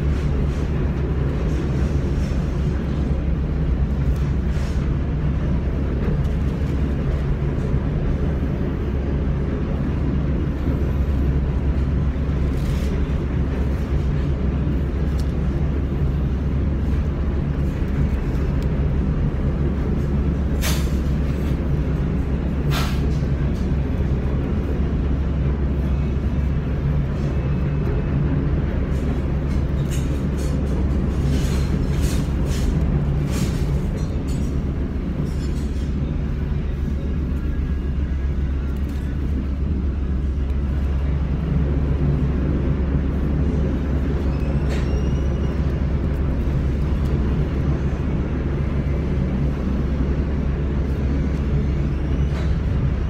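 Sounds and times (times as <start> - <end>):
engine rumble inside vehicle cabin: 0.0 - 53.0.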